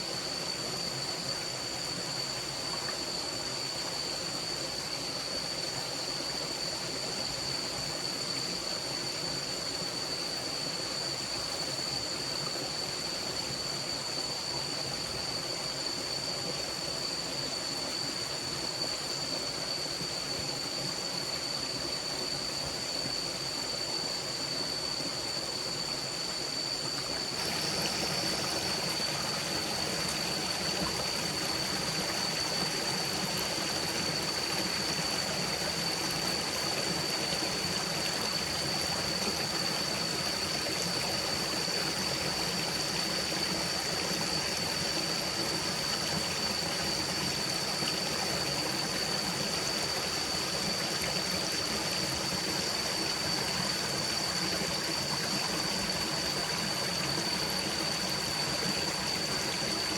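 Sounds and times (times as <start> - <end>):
constant high-pitched tone: 0.0 - 59.9
forest stream flowing: 0.0 - 59.9.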